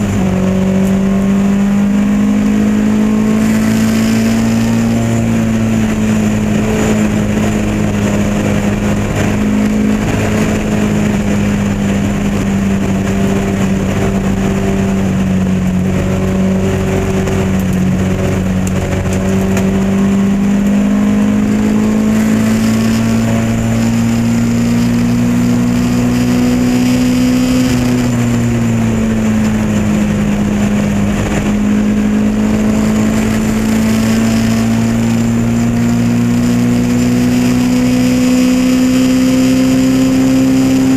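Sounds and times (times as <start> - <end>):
race car engine at high revs: 0.0 - 40.9.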